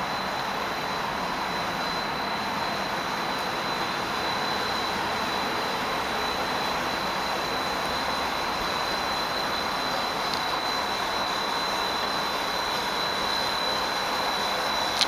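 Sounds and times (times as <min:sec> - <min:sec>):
high-pitched whine: 0:00.0 - 0:15.0
train running rumble and hiss: 0:00.0 - 0:15.0.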